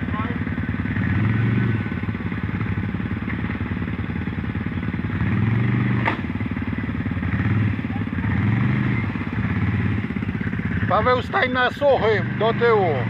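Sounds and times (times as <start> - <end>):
quad bike engines revving: 0.0 - 13.0.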